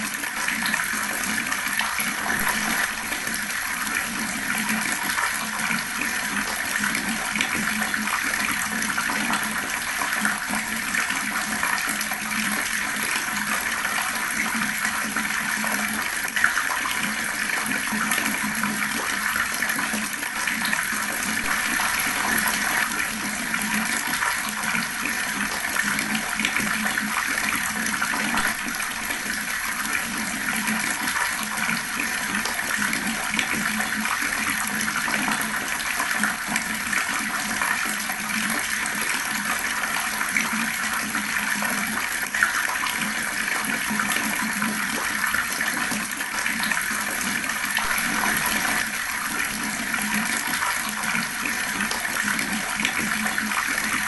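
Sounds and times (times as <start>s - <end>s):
fast-flowing water: 0.0s - 54.0s.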